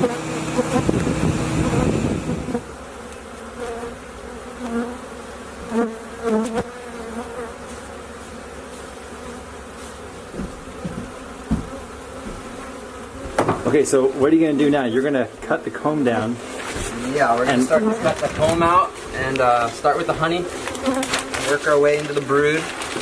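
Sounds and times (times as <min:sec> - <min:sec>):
single bees flying past: 0:00.0 - 0:14.8, 0:16.4 - 0:23.0
honeybees buzzing: 0:00.0 - 0:23.0.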